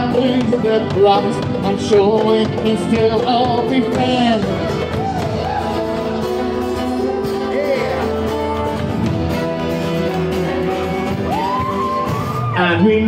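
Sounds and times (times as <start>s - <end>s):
guitar-led folk band music: 0.0s - 13.0s
steady bass: 0.0s - 13.0s.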